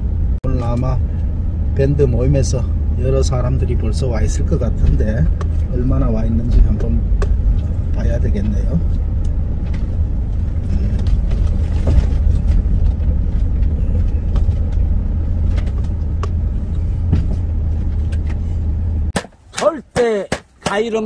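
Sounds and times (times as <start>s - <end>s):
wind rumbling on microphone: 0.0s - 19.2s.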